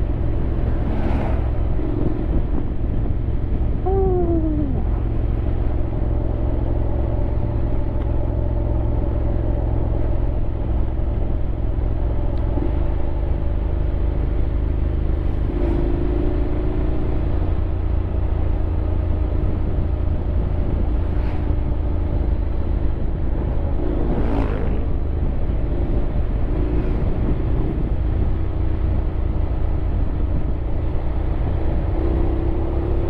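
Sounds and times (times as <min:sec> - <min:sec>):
motorcycle engine running: 0:04.6 - 0:33.0.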